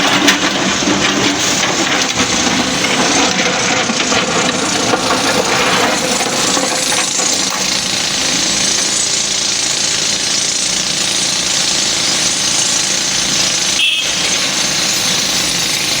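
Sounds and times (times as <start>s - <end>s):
excavator diesel engine rattling: 0.0s - 16.0s.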